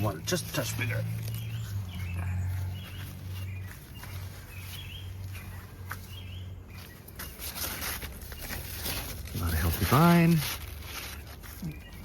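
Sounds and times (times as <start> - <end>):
bird chirping: 0.0 - 12.0
rustling: 0.0 - 12.0.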